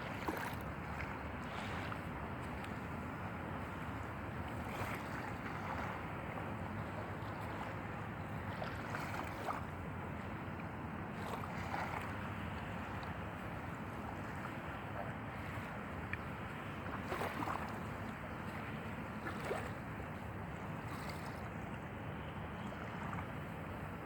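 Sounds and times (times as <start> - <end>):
water noise: 0.0 - 24.0
wind: 0.0 - 24.0.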